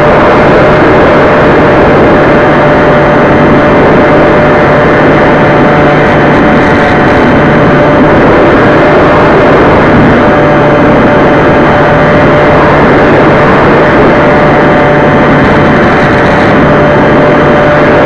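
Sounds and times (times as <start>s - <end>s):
model plane motor and propeller: 0.0s - 18.0s
wind rushing on microphone: 0.0s - 18.0s.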